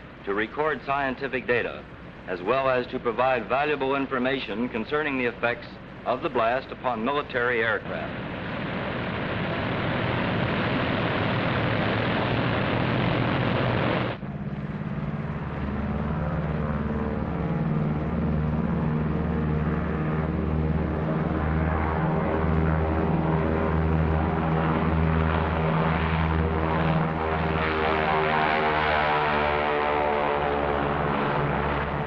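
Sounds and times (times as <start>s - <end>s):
piston aircraft engines droning: 0.0s - 32.0s.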